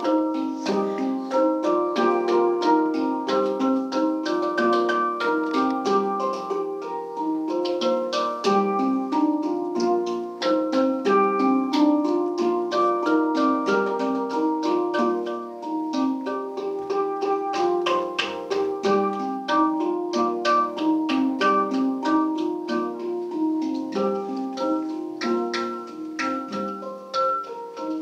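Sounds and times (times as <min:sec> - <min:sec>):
handpans played: 0:00.0 - 0:28.0.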